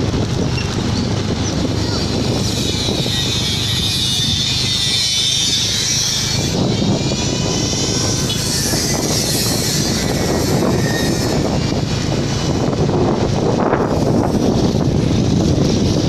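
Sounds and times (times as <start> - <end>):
vehicle engine running: 0.0 - 16.0
wind rushing over microphone: 0.0 - 16.0.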